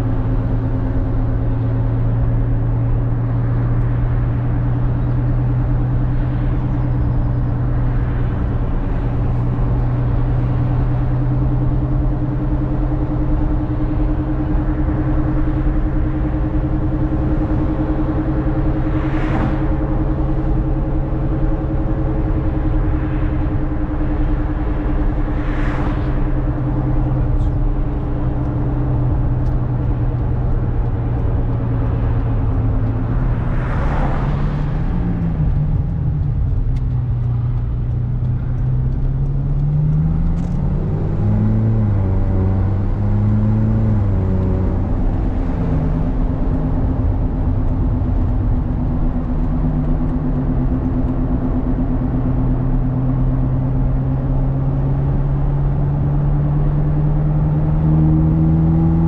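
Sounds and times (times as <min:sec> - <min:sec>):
car engine running: 0:00.0 - 0:59.0
road and tyre noise: 0:00.0 - 0:59.0.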